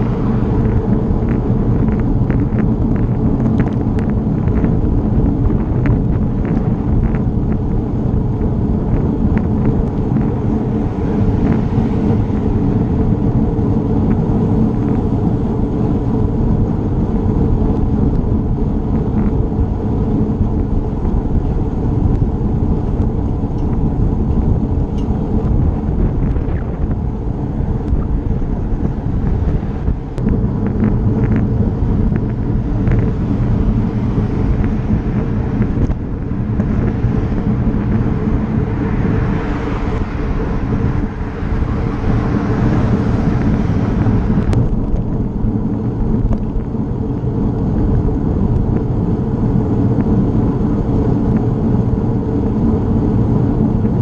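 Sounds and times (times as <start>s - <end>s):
road traffic: 0.0s - 54.0s
wind buffeting microphone: 0.0s - 54.0s.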